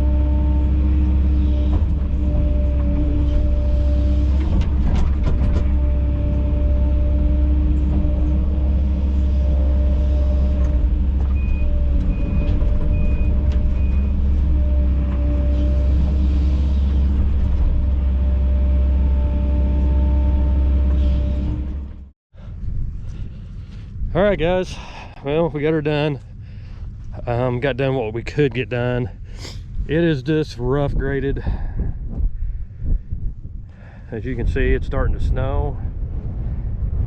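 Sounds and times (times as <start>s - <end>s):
excavator diesel engine running: 0.0s - 33.1s.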